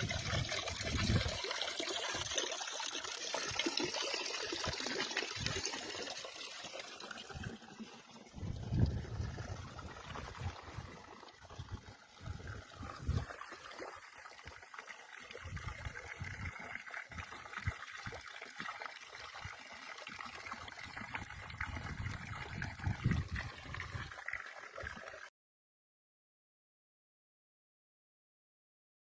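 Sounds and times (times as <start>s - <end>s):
stream trickling and splashing: 0.0s - 25.3s.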